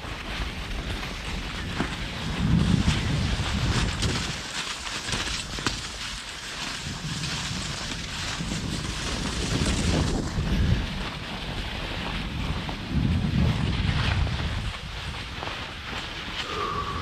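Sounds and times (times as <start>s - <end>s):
low rumbling gusts: 0.0s - 4.6s, 6.7s - 17.0s
wind buffeting microphone: 0.0s - 17.0s.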